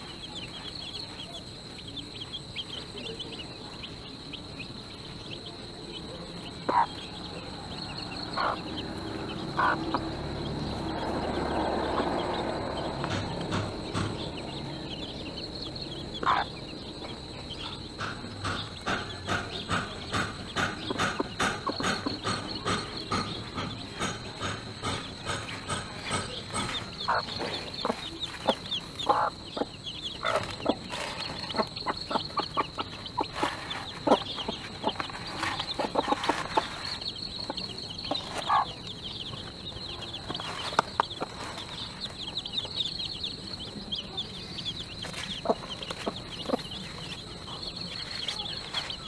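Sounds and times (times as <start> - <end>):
chicks peeping: 0.0 - 49.0
hen clucking: 0.0 - 49.0.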